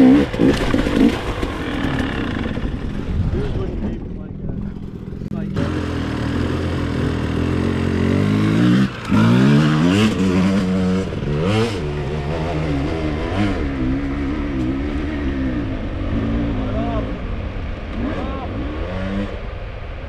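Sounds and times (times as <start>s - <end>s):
dirt bike engine revving: 0.0s - 3.7s, 4.6s - 20.0s.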